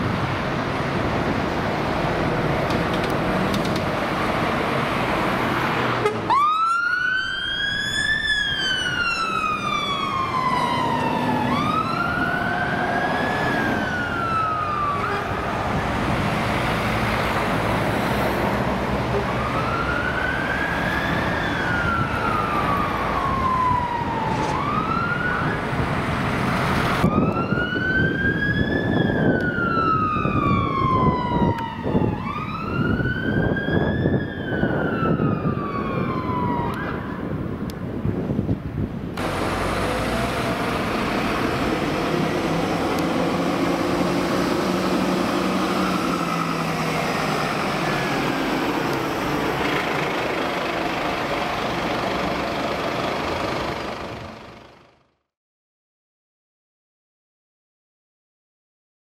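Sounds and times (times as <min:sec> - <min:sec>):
road traffic noise: 0:00.0 - 0:55.3
fire engine siren wailing: 0:04.1 - 0:38.0, 0:39.2 - 0:55.0.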